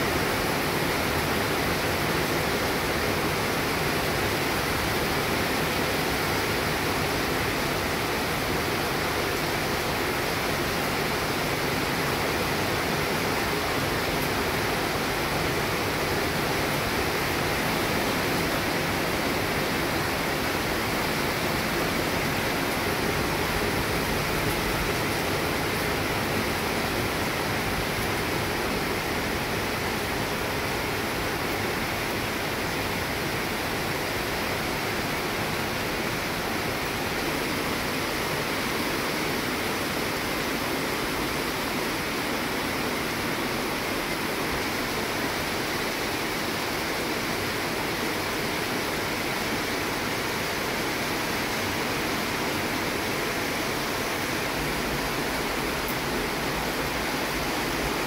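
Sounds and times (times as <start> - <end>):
steady rain on plants and paving: 0.0 - 58.0.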